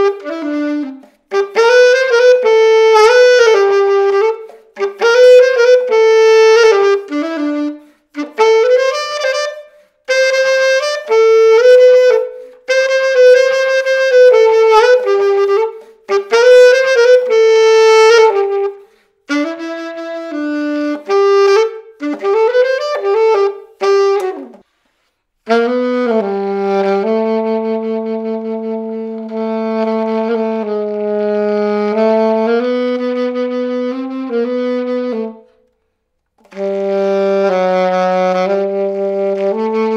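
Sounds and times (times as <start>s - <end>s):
alto saxophone solo: 0.0s - 39.9s.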